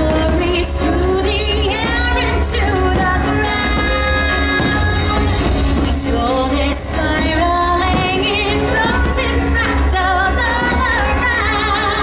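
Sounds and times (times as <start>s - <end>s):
musical backing: 0.0s - 12.0s
woman singing with vibrato: 0.0s - 12.0s.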